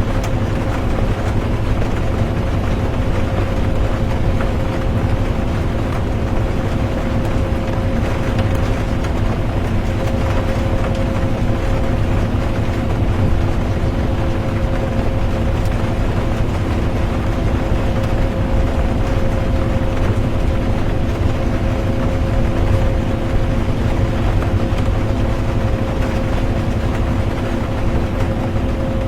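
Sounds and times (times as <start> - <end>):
bus driving rumble: 0.0 - 29.0
rain: 0.0 - 29.0.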